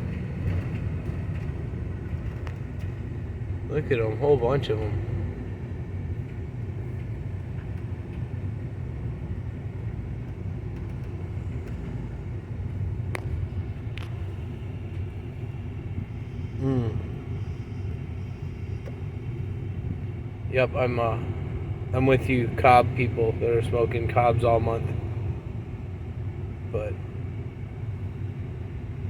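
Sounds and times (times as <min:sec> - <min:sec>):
car idling rumble: 0:00.0 - 0:29.0.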